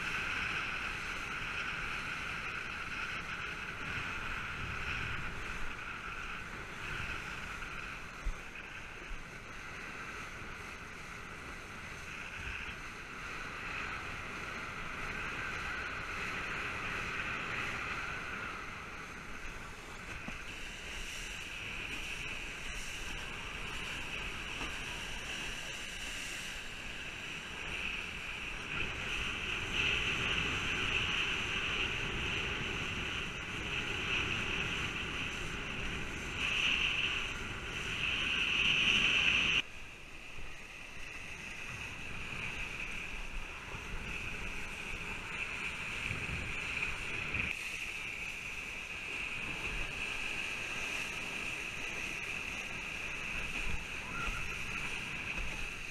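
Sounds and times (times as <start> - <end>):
water hissing under kiteboard: 0.0 - 55.9
wind on camera microphone: 0.0 - 55.9.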